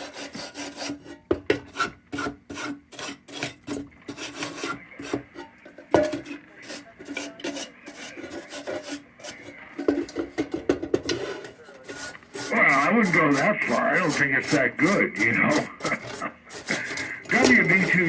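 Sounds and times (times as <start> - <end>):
hand scrubbing metal: 0.0 - 18.0.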